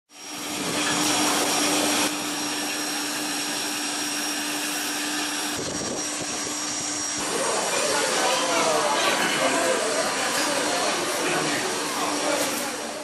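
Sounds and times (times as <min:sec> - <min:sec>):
jet turbine whine: 0:00.1 - 0:13.0.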